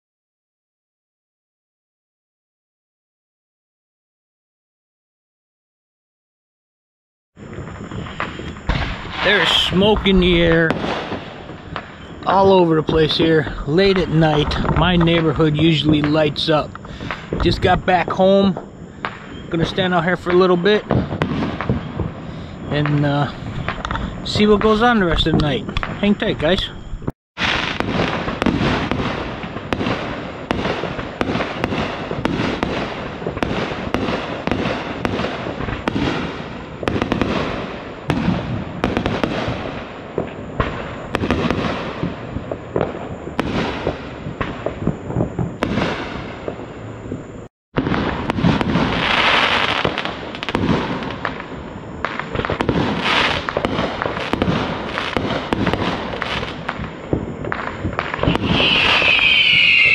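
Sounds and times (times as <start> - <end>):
fireworks bangs and crackling: 7.4 - 59.9.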